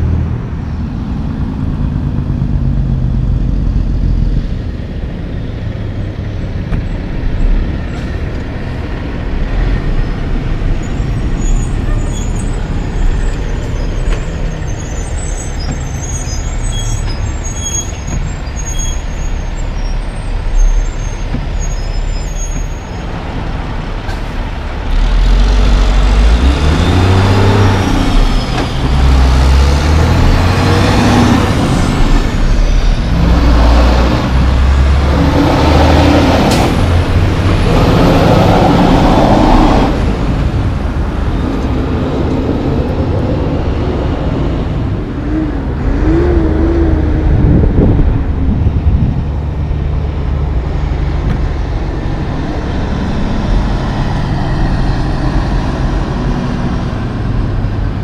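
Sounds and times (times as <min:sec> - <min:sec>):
truck diesel engine: 0:00.0 - 0:58.0.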